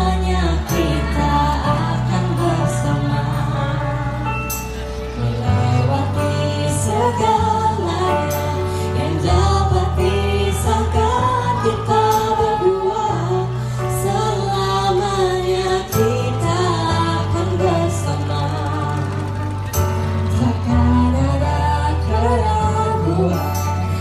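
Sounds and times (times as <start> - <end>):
woman singing: 0.0 - 19.6, 20.3 - 24.0
instrumental backing: 0.0 - 24.0
steady bass line: 0.0 - 24.0.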